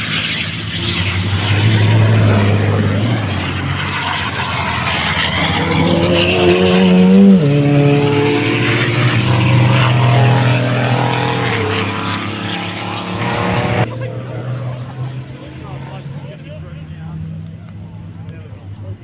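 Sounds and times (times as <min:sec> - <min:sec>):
racing truck engine under load: 0:00.0 - 0:19.0.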